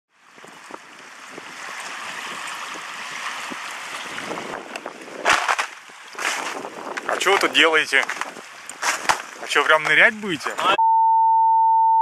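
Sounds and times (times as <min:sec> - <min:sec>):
river waves lapping against ice: 0:00.1 - 0:10.7.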